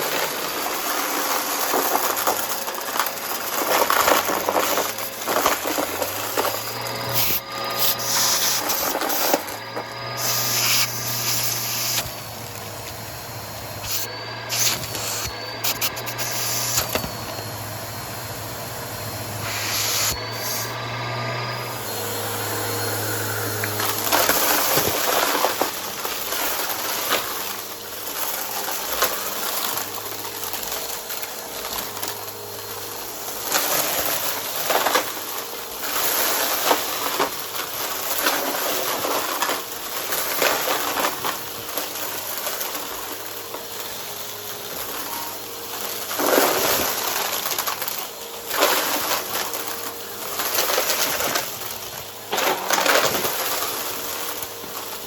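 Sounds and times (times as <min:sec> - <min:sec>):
debris crackling and crunching: 0:00.0 - 0:17.4, 0:23.6 - 0:55.0
vacuum cleaner motor hum: 0:00.0 - 0:55.0.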